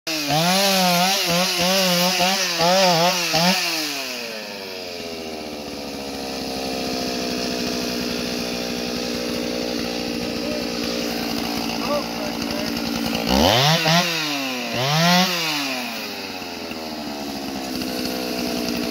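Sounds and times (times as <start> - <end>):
chainsaw cutting log: 0.1 - 18.9
chainsaw engine idling: 0.1 - 18.9.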